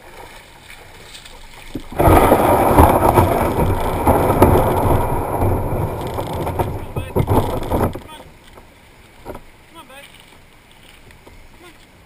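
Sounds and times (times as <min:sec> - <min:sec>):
kayak hull scraping over gravel: 0:00.0 - 0:11.3.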